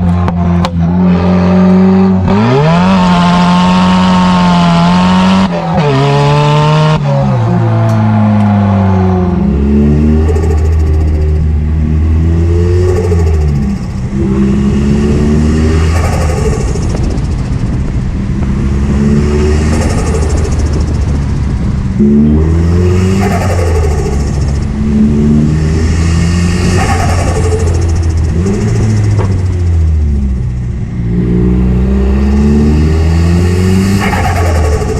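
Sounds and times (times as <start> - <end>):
car engine accelerating hard: 0.0 - 34.9.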